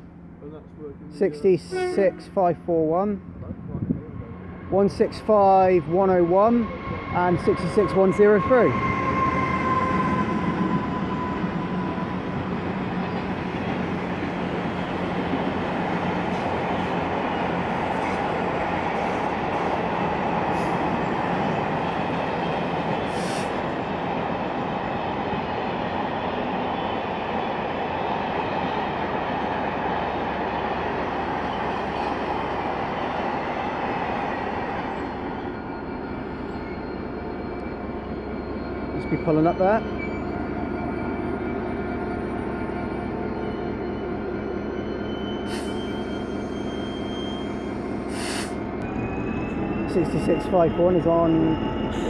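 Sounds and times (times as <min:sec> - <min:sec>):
diesel locomotive engine rumble: 0:00.0 - 0:52.0
train wheels on rails: 0:04.8 - 0:52.0.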